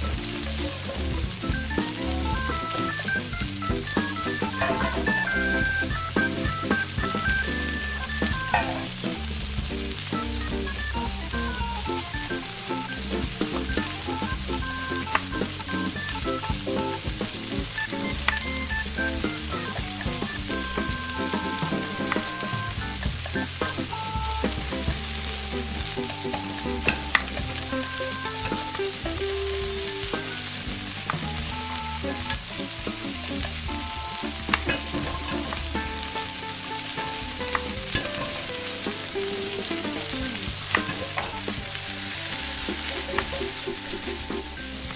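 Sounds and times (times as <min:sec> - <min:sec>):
meat sizzling in a saucepan: 0:00.0 - 0:44.9.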